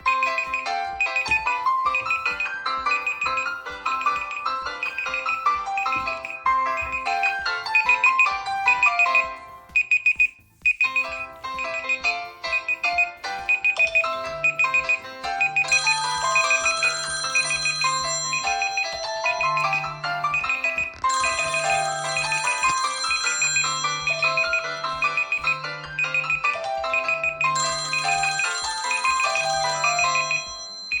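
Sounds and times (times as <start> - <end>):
repeating high beep: 0.0 - 31.0
ringtone melody: 0.0 - 31.0.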